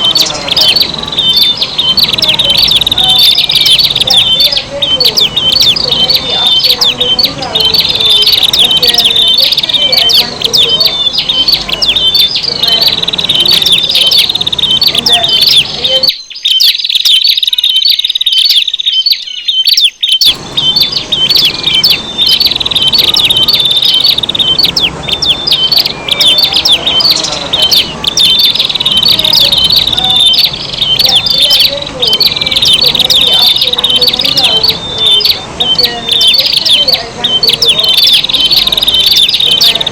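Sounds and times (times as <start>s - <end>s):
bird rapid high chirps: 0.0s - 39.9s.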